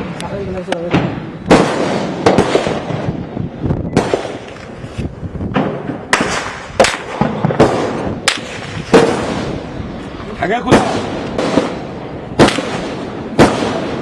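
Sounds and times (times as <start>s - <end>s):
echoing gunshots: 0.9s - 4.6s, 5.5s - 9.8s, 10.5s - 14.0s.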